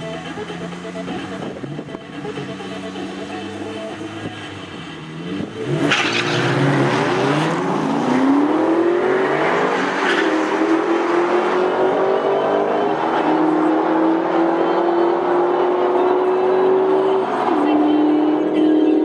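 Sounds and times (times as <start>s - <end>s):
drag car accelerating: 0.0s - 19.0s.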